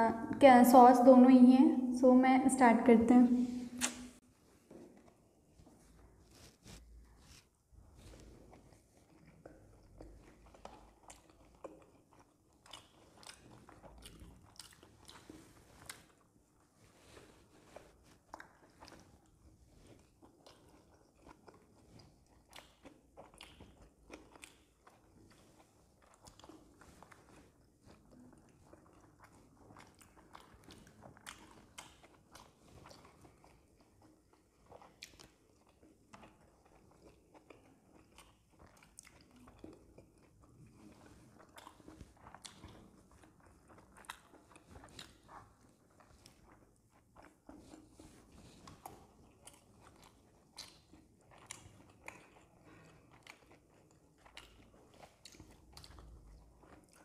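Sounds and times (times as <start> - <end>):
biting and chewing: 6.4 - 57.0.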